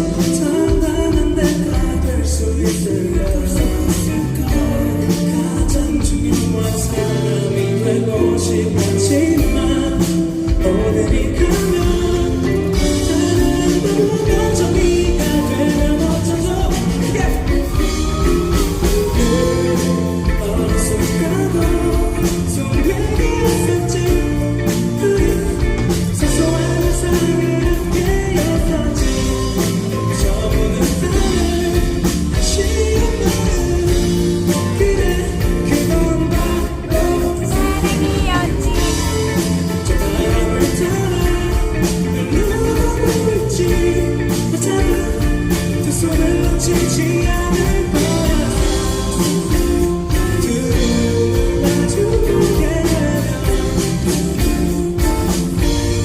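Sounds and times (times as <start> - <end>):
live pop-rock band with guitar: 0.0 - 56.0
steady drum beat: 0.0 - 56.0.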